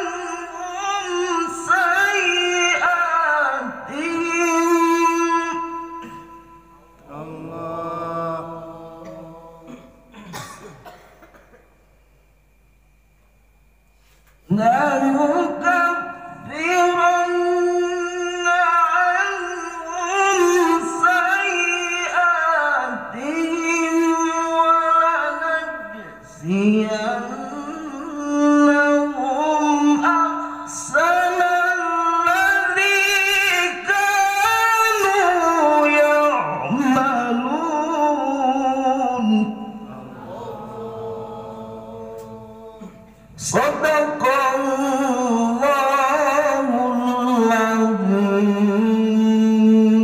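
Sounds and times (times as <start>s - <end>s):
man chanting into a microphone: 0.0s - 10.1s, 14.4s - 50.0s.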